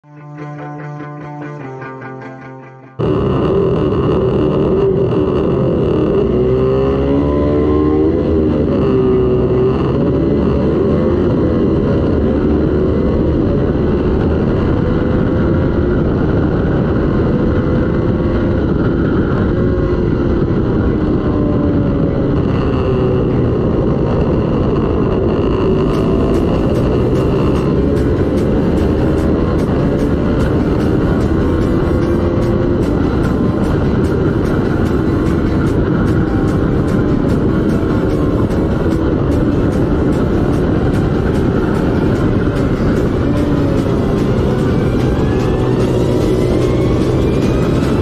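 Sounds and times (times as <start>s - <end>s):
racing motorcycles revving: 3.0s - 48.0s.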